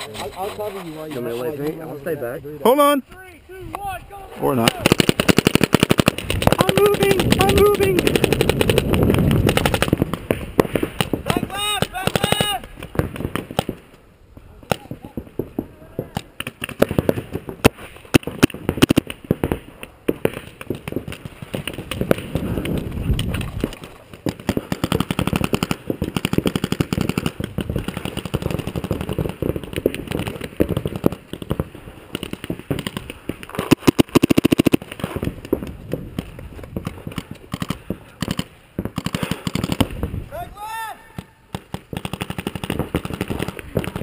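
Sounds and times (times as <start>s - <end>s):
paintball markers firing: 3.7s - 14.0s, 14.6s - 40.0s, 41.1s - 44.0s.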